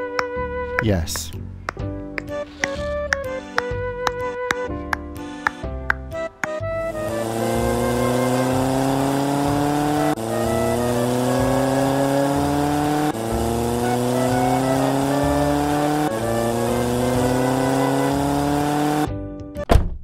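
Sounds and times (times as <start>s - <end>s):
engine note climbing in pitch: 2.2s - 19.1s.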